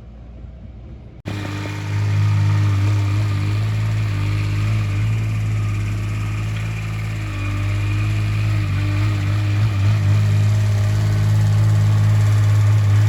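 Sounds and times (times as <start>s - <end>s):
heavy machinery engine running: 1.3s - 13.0s.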